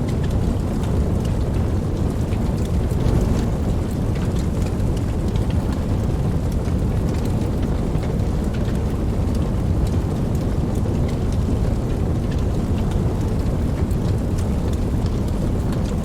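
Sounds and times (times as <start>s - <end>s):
deep low rumble: 0.0s - 16.0s
rain drops ticking: 0.0s - 16.0s
steady rain: 0.0s - 16.0s.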